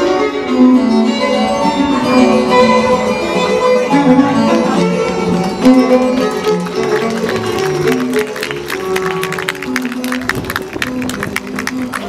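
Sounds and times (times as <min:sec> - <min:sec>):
instrumental music melody: 0:00.0 - 0:12.0.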